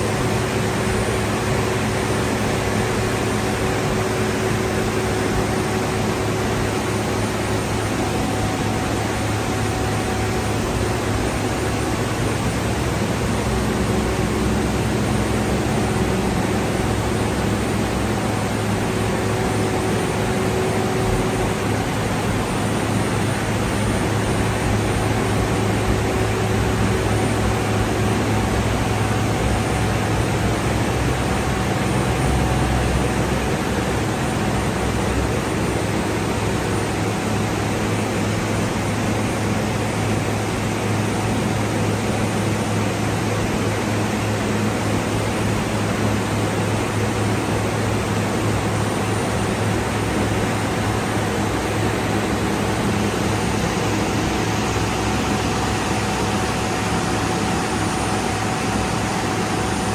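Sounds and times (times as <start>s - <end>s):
production line machinery noise: 0.0s - 59.9s.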